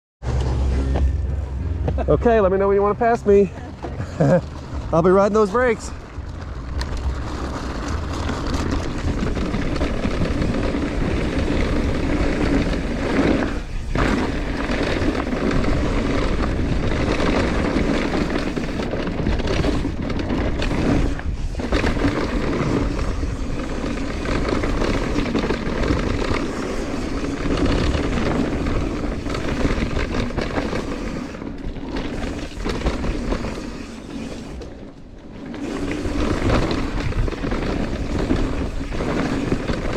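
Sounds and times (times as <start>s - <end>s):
bike tyres rolling on dirt: 0.2s - 39.9s
wind rush on microphone: 3.7s - 34.7s, 35.6s - 39.9s.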